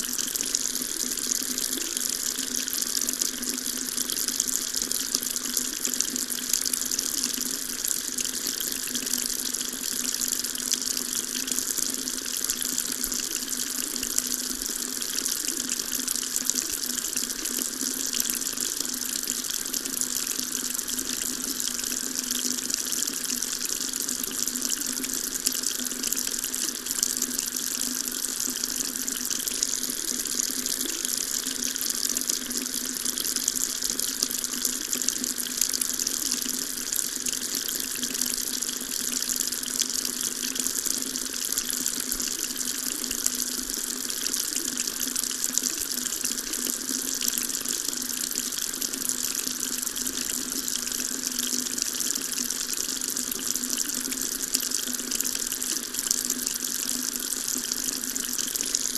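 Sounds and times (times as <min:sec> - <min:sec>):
water tap running: 0:00.0 - 0:58.9.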